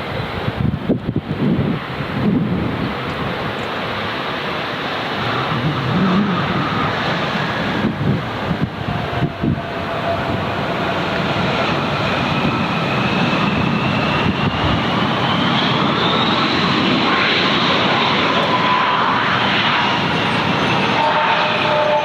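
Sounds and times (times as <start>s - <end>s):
airliner engines running: 0.0s - 22.0s
high engine whine: 0.0s - 22.0s
low engine whine: 0.0s - 22.0s.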